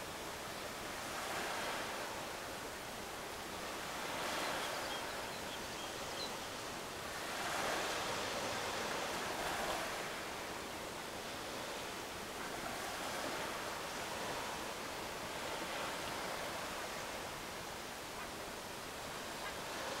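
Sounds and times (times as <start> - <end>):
open sea water rushing: 0.0 - 20.0
wind: 0.0 - 20.0.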